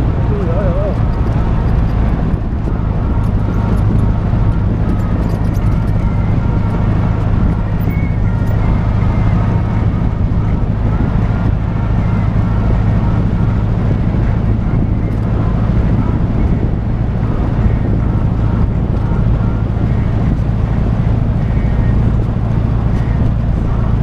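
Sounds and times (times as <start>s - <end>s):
trike engine running: 0.0s - 24.0s.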